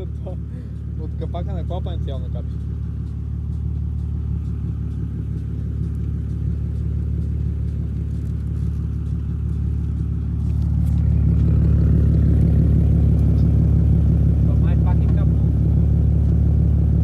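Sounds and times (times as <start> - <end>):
car engine drone: 0.0 - 17.0.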